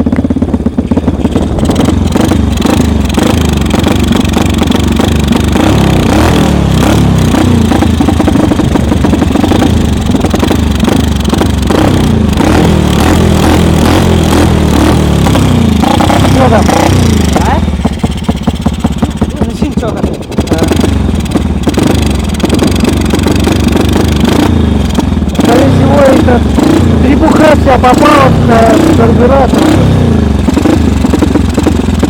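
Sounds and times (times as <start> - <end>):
small engine revving: 0.0 - 32.0.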